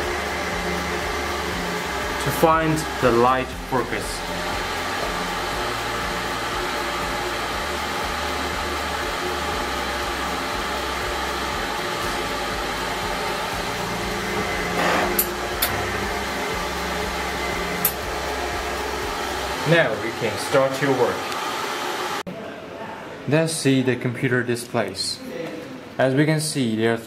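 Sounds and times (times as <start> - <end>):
cooling fans whirring hum: 0.0 - 22.2.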